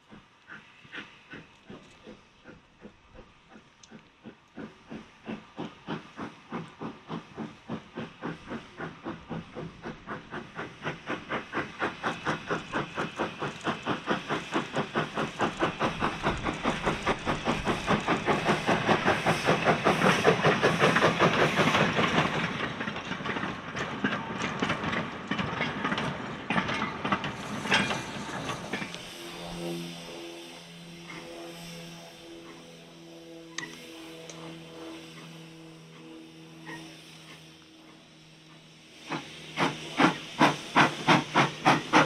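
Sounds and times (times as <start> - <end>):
steam locomotive chuffing: 0.0 - 42.0.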